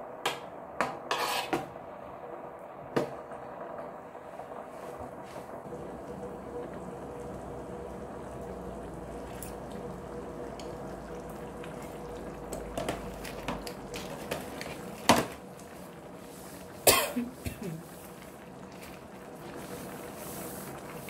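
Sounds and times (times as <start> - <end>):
soup bubbling: 3.2 - 21.0.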